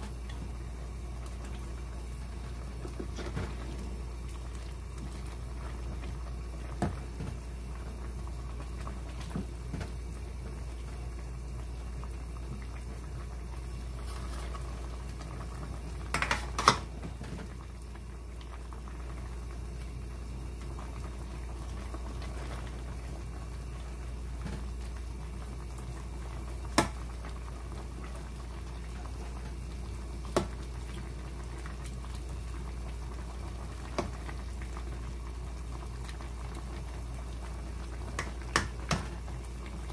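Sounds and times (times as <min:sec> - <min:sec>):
stew bubbling in pot: 0:00.0 - 0:39.9.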